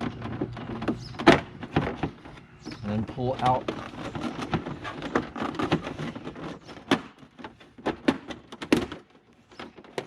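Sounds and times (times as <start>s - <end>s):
plastic panel clicking and rattling: 0.0s - 10.0s.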